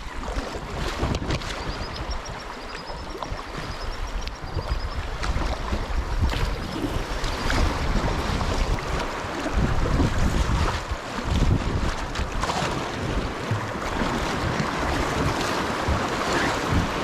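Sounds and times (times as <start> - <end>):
stream water rushing: 0.0 - 17.0
wind buffeting microphone: 0.0 - 17.0.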